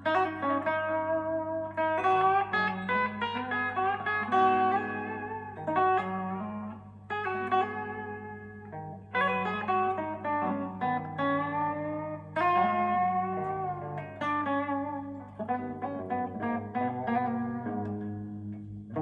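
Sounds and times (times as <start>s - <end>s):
electric guitar picked notes: 0.0s - 19.0s.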